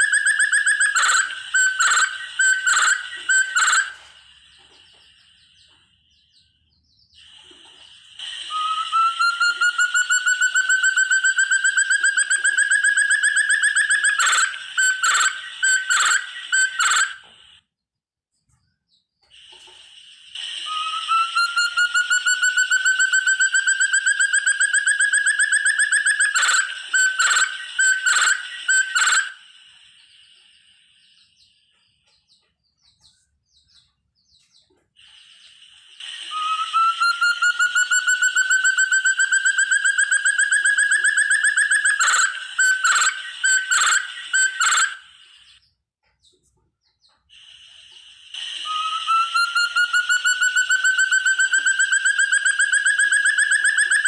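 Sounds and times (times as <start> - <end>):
partridge whistled trill call: 0.0 - 17.6, 19.4 - 45.7, 47.0 - 54.0.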